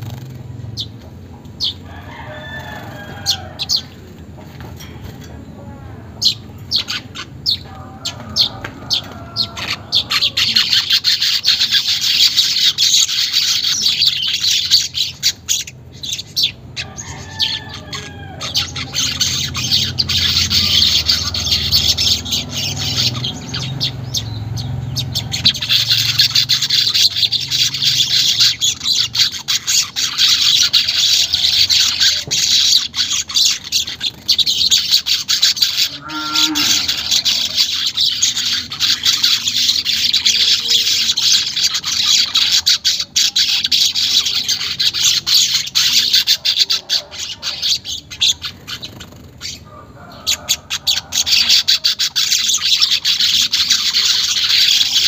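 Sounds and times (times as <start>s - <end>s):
weaver birds twittering: 0.0s - 55.0s.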